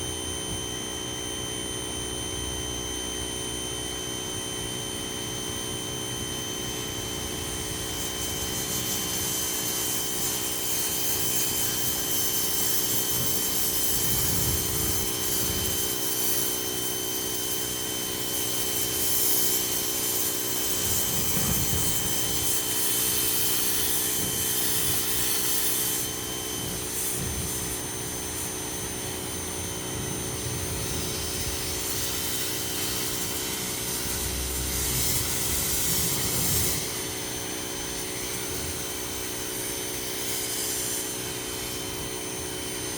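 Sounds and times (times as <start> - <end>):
pressure washer motor whine: 0.0 - 42.9
water jet spray hiss: 7.4 - 42.9.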